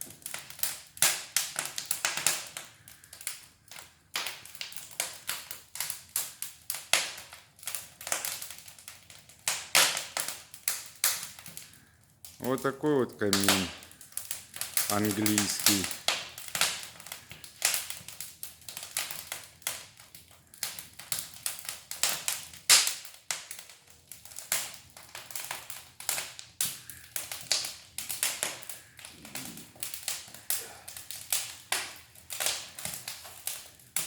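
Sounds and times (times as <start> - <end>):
sharp pops of fire: 0.0 - 34.0
wood fire crackling: 0.0 - 34.0.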